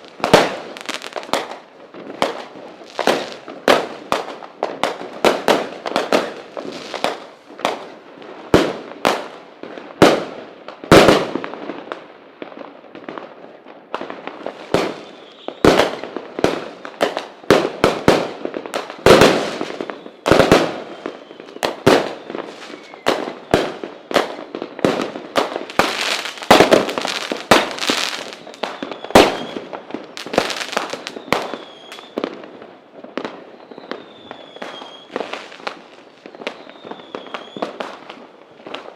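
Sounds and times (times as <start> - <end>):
fireworks crackling: 0.0 - 38.9
fireworks sharp bangs: 0.0 - 38.9.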